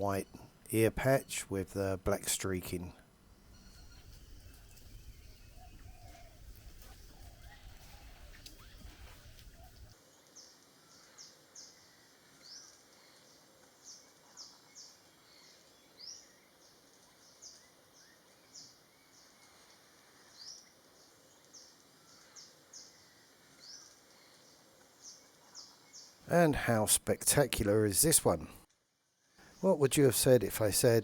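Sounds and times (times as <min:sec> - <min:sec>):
soft background hiss: 0:00.0 - 0:31.0.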